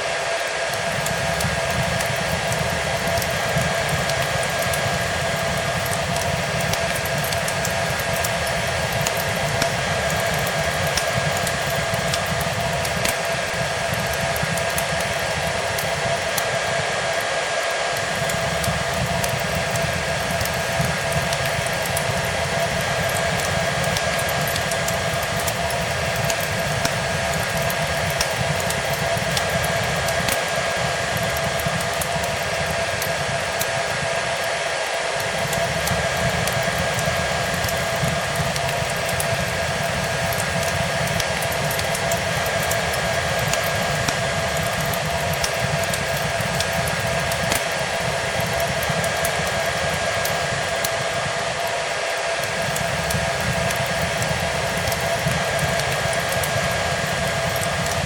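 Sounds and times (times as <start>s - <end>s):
hair dryer running: 0.0s - 58.0s
fireplace crackling and popping: 0.1s - 58.0s.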